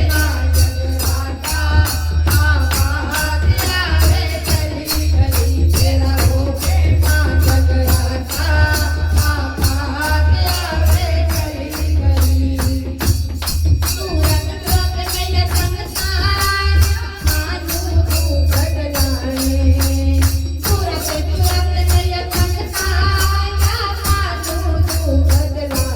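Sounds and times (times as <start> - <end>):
jingling percussion: 0.0 - 25.9.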